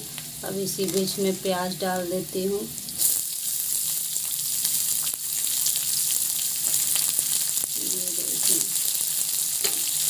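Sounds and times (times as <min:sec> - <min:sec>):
hot oil sizzling: 0:00.0 - 0:10.0.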